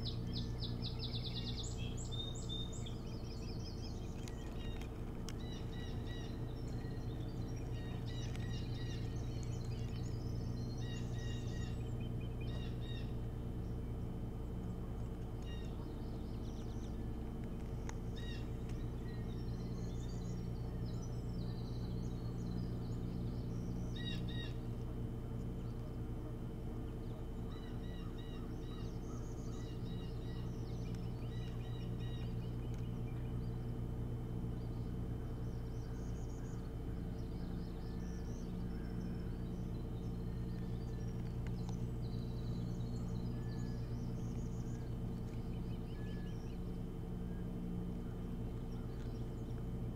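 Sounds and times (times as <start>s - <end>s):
birds chirping: 0.0s - 49.9s
steady low hum: 0.0s - 49.9s.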